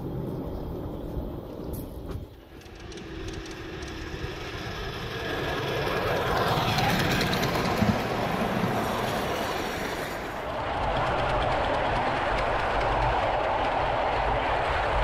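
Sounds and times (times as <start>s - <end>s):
miniature train running on track: 2.3s - 15.0s.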